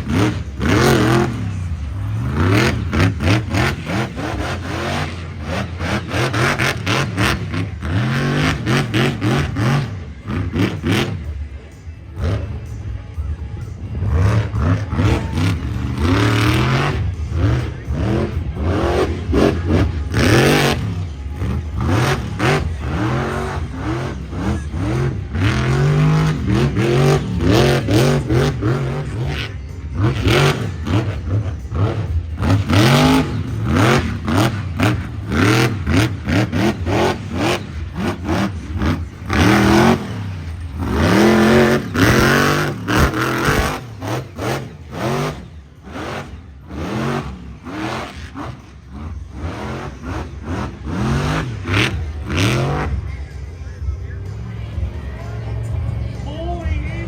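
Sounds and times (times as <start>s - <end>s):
monster truck engine revving: 0.0s - 57.0s.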